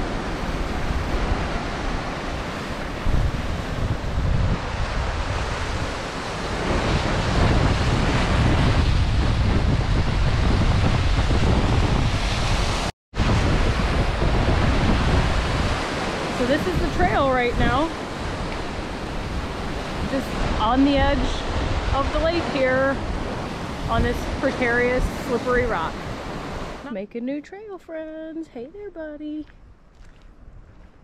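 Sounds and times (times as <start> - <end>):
waves breaking over rocks: 0.0 - 26.8
wind buffeting microphone: 0.0 - 27.0, 27.6 - 31.0.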